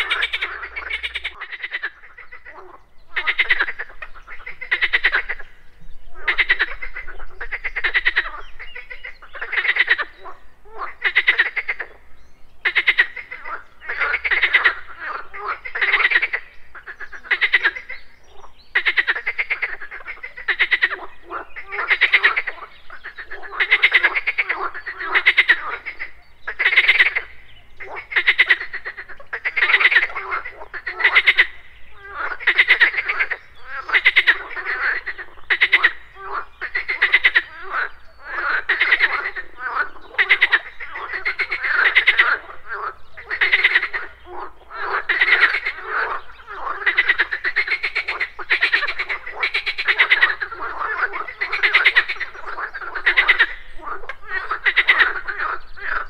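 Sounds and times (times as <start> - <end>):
frogs croaking in chorus: 0.0 - 56.0.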